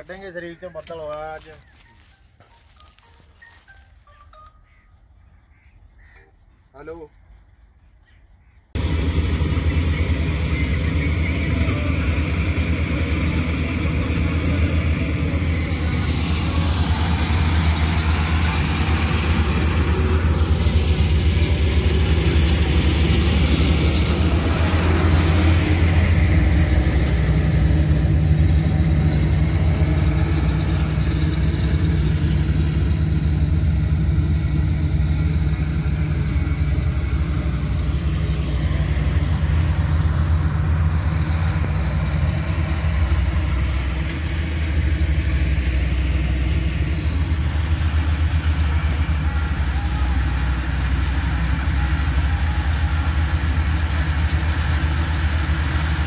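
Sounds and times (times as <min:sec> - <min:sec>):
combine harvester engine drone: 0:08.8 - 0:56.0.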